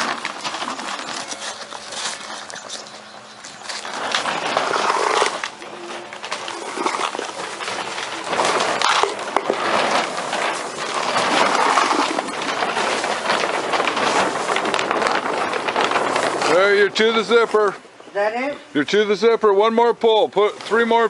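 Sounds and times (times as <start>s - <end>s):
plastic sheeting rustling: 0.0s - 18.1s.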